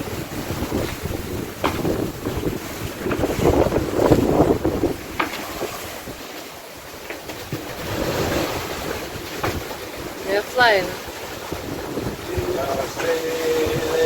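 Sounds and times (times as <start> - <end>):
waves rushing against yacht: 0.0 - 14.0
wind buffeting microphone: 0.0 - 14.0.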